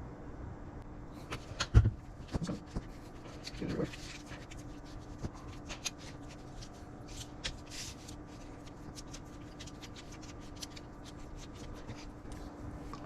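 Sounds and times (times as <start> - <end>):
faint steady hum: 0.0 - 13.0
hands rubbing raw meat: 2.2 - 13.0.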